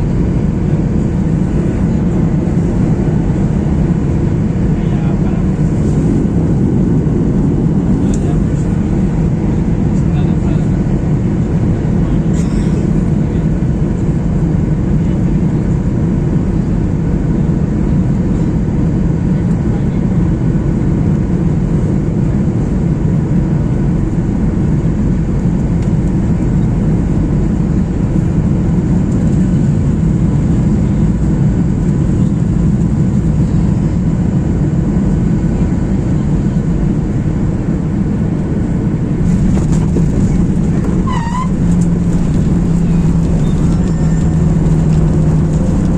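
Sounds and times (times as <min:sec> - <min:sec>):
airliner engine rumble: 0:00.0 - 0:45.9.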